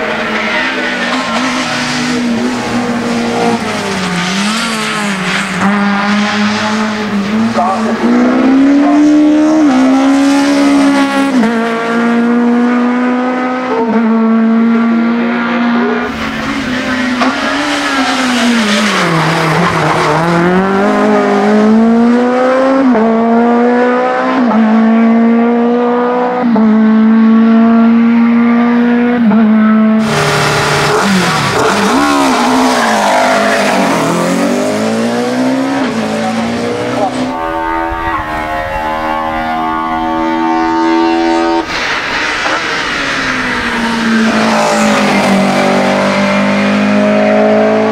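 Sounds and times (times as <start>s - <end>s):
racing car engines revving: 0.0s - 47.9s.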